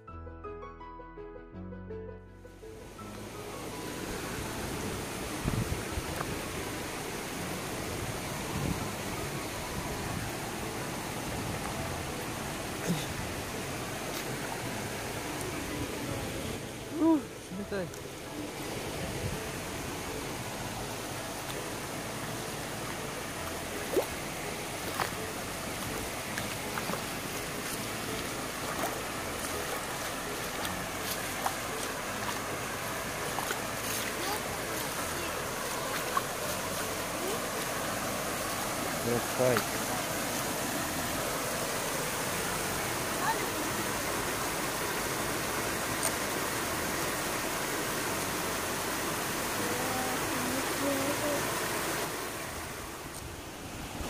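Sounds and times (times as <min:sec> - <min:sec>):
stream water rushing: 0:02.5 - 0:54.0.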